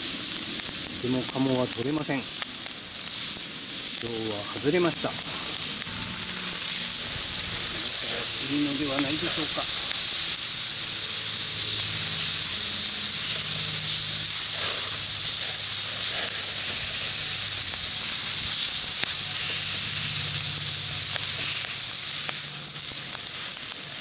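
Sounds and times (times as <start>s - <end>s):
meat sizzling on griddle: 0.0s - 24.0s.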